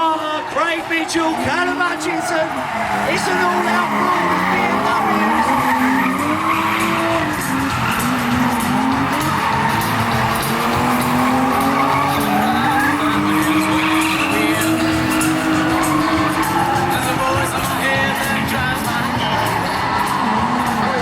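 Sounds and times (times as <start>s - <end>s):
drift car engines revving high: 0.0s - 21.0s
tyres squealing and skidding: 0.0s - 21.0s.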